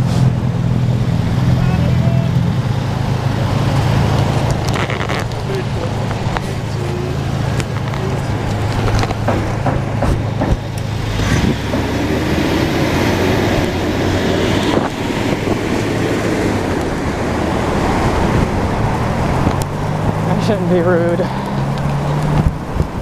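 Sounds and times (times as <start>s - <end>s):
road traffic noise: 0.0s - 23.0s
steady low rumble: 0.0s - 23.0s.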